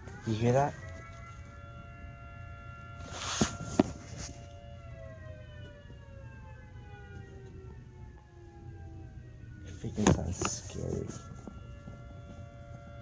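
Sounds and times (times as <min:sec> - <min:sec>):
outdoor warning siren: 0:00.0 - 0:13.0.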